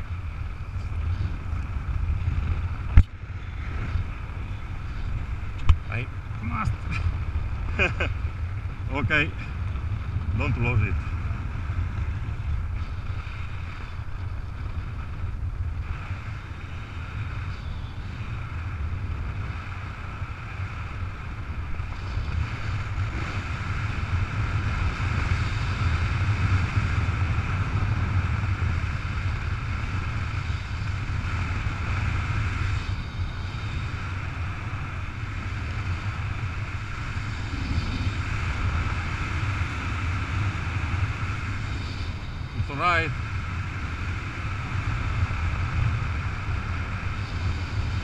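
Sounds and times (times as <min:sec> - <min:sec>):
wind rushing over microphone: 0:00.0 - 0:48.0.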